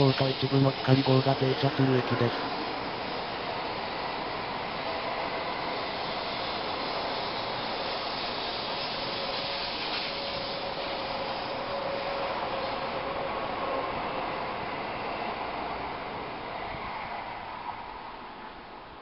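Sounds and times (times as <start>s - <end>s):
train rolling rail noise: 0.0s - 19.0s.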